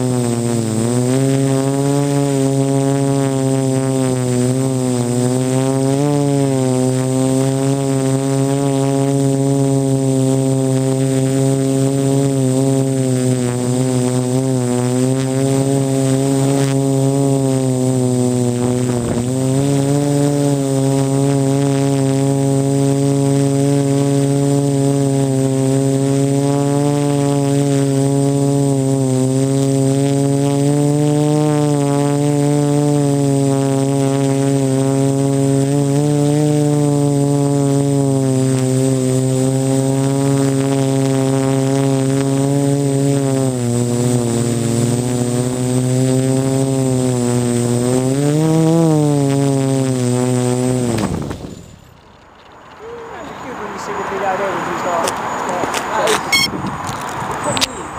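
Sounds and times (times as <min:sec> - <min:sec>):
quadcopter motors humming: 0:00.0 - 0:57.9.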